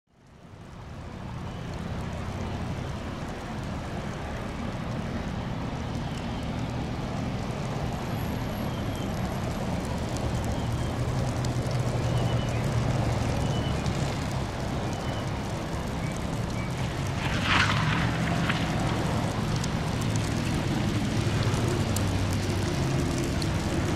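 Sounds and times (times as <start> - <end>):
jet engines low rumble: 0.1 - 23.9.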